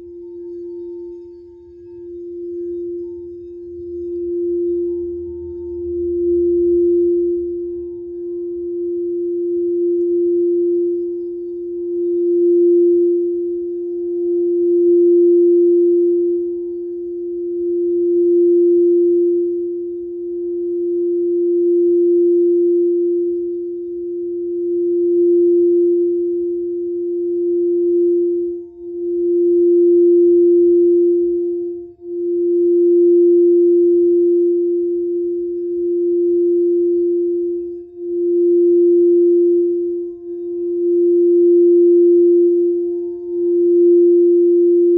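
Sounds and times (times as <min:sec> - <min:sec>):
singing bowl ringing tone: 0:00.0 - 0:44.9.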